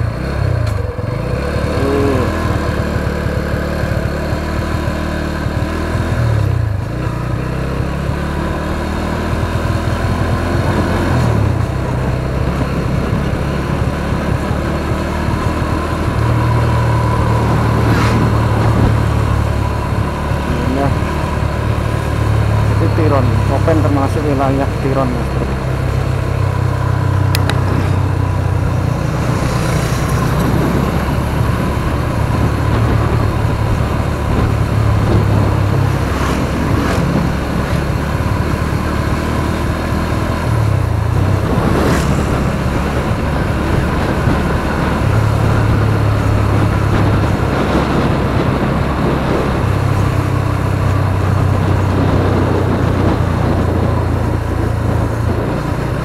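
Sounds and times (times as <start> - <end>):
motorcycle engine humming: 0.0 - 56.0
road noise rushing: 0.0 - 56.0.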